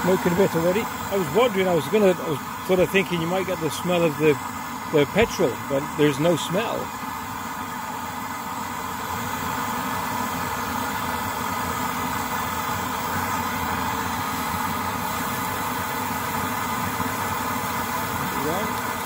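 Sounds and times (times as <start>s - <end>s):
pressure stove burner roaring: 0.0s - 19.0s.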